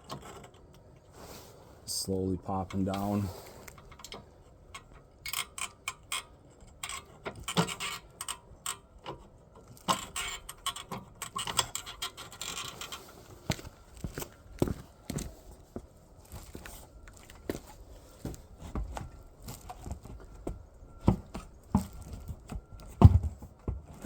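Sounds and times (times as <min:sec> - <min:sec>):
tire rubber creaking and clicking: 0:02.5 - 0:24.0.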